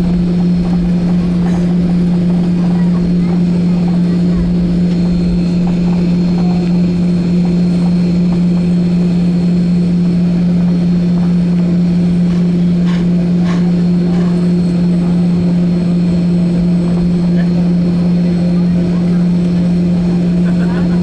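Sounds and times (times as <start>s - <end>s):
aircraft cabin drone: 0.0s - 21.0s.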